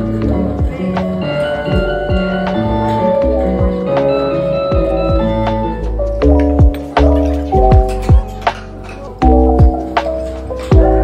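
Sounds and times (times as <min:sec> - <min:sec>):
melody over bass and drum beat: 0:00.1 - 0:08.2, 0:09.2 - 0:11.0.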